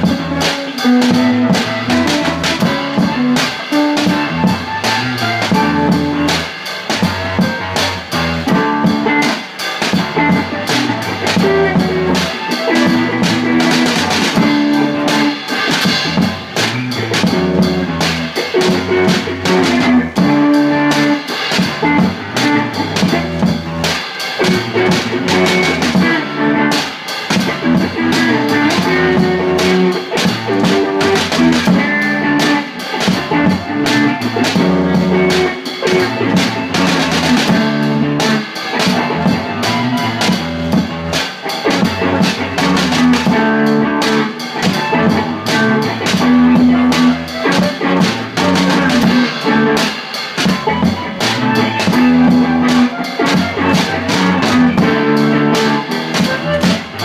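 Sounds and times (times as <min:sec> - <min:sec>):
drum kit playing a steady beat: 0:00.0 - 0:57.0
guitar: 0:00.0 - 0:57.0.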